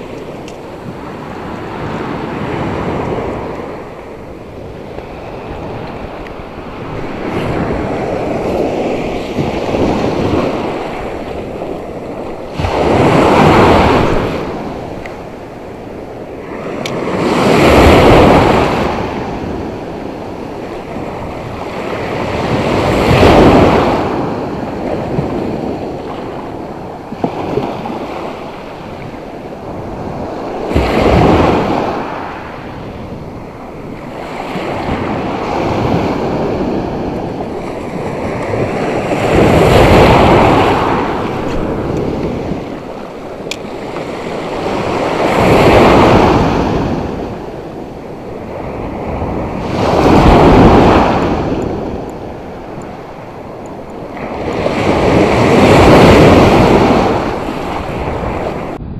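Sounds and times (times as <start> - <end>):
sea waves breaking on beach: 0.0 - 58.8
wind on microphone: 0.0 - 58.9.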